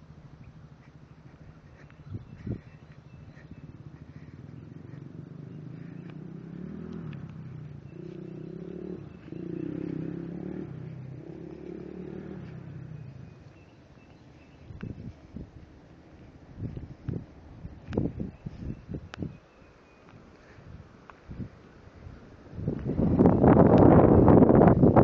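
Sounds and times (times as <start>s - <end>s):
vehicle engine passing by: 0.0s - 19.1s, 20.4s - 25.0s.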